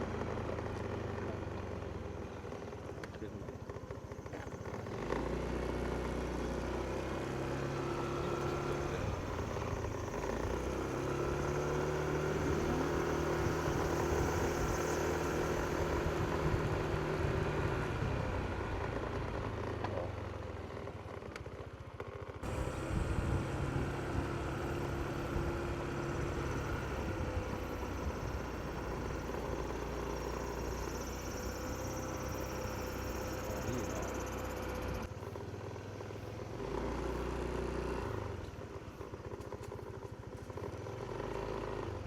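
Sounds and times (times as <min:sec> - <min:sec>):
scooter engine running: 0:00.0 - 0:42.0.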